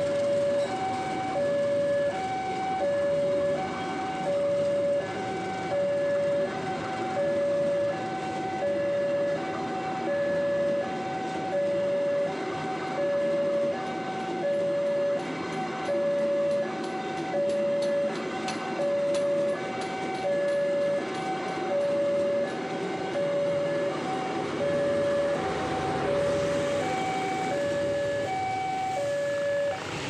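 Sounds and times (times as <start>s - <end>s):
train coaches rolling past: 0.0s - 30.0s
level crossing alarm two-tone: 0.4s - 30.0s.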